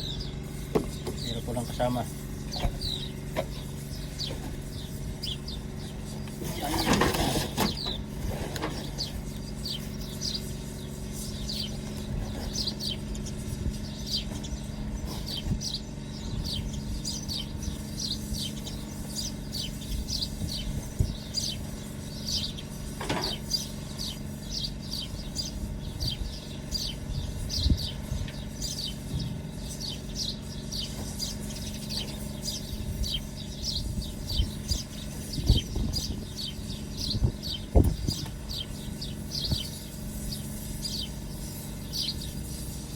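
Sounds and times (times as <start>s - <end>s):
low mechanical hum: 0.0s - 42.9s
small birds chirping: 0.0s - 42.9s.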